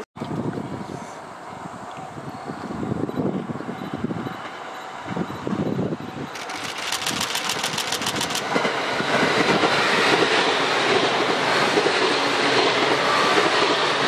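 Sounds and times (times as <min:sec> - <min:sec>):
electric train passing: 0:01.4 - 0:14.0.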